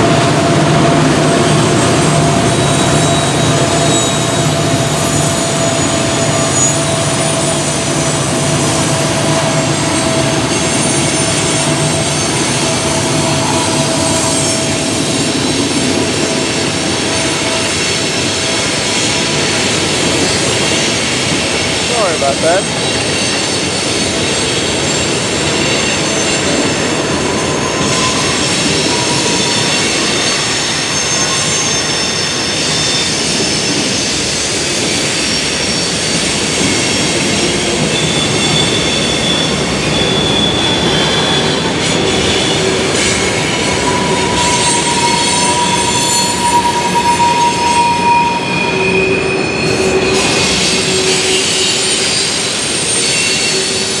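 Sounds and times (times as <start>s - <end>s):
train wheels rumbling on rail: 0.0s - 54.0s
wheel squeals: 1.3s - 54.0s.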